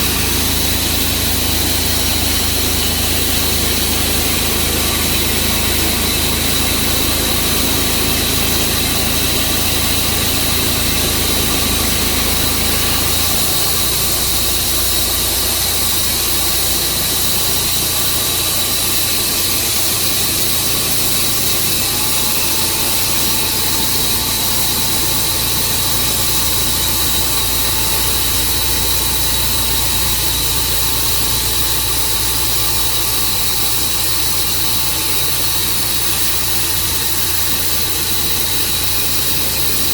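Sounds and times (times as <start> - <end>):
high whine: 0.0 - 39.9
sawmill engine running: 0.0 - 39.9
thin whine: 0.0 - 39.9.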